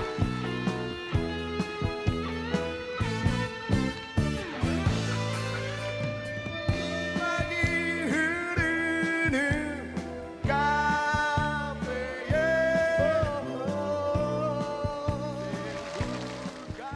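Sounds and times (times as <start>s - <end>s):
pop band music: 0.0s - 16.9s.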